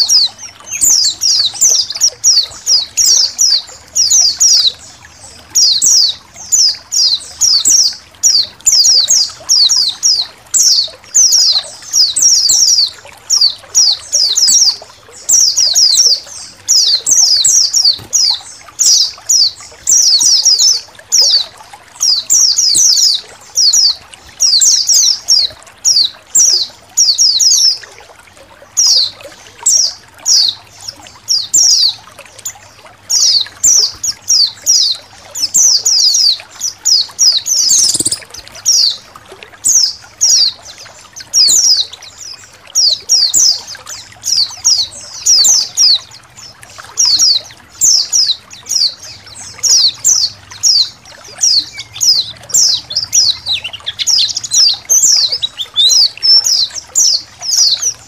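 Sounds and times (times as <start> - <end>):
birds twittering: 0.0 - 27.9, 28.6 - 58.0
faint trickling water: 0.0 - 58.0.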